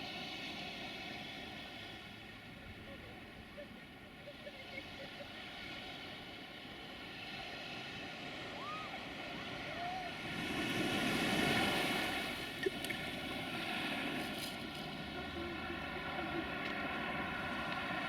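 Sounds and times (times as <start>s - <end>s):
faint steady hum: 0.0s - 18.0s
wind: 0.0s - 18.0s.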